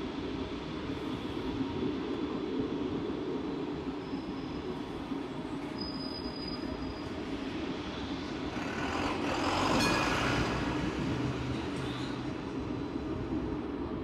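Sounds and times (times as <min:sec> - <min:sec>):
passing tram rushing: 0:00.0 - 0:14.0
tram rumbling along track: 0:00.0 - 0:14.0.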